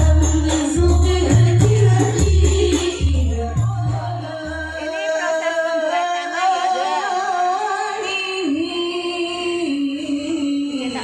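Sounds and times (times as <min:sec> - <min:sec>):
woman singing with music: 0:00.0 - 0:11.0.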